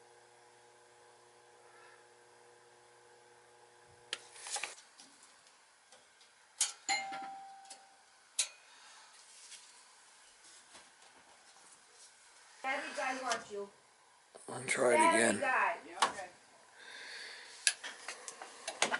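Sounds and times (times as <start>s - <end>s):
furnace electrical hum: 0.0s - 18.9s.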